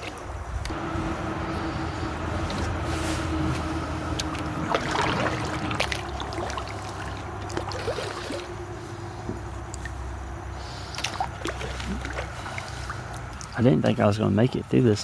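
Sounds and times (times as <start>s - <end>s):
water trickling and splashing: 0.0s - 15.0s
steady low hum: 0.2s - 15.0s.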